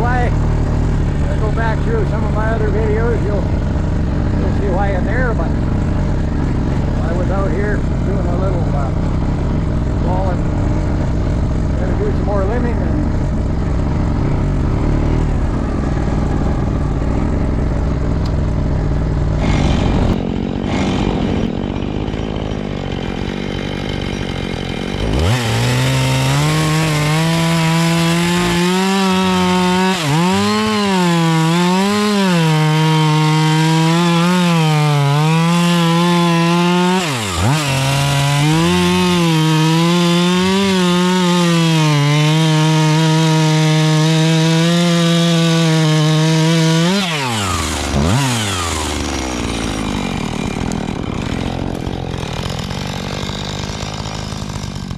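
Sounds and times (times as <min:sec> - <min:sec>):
atv engine running: 0:00.0 - 0:41.4, 0:46.8 - 0:54.7
two-stroke chainsaw cutting: 0:00.0 - 0:54.9.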